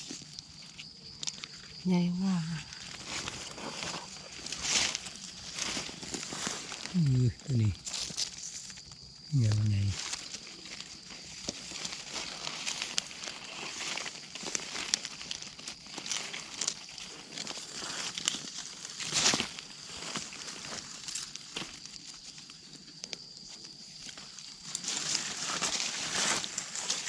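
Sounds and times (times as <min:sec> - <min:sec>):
dry leaves rustling and crackling: 0:02.4 - 0:27.0.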